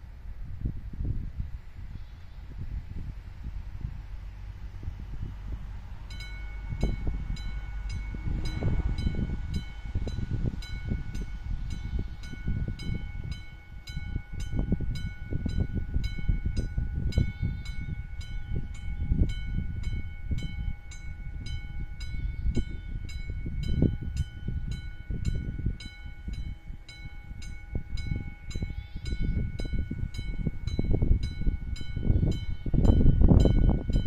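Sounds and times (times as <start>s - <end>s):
low rumble: 0.0s - 34.0s
electric warning bell ringing: 6.1s - 34.0s.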